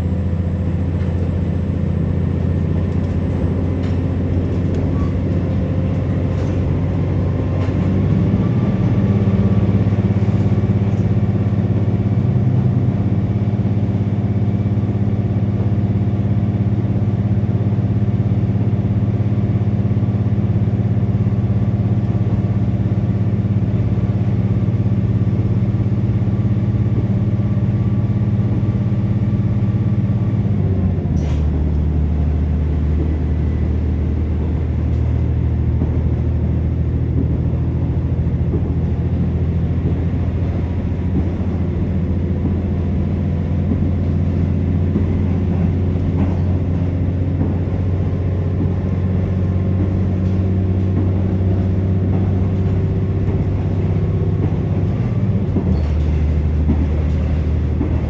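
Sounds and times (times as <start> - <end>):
diesel railcar engine running: 0.0 - 58.0.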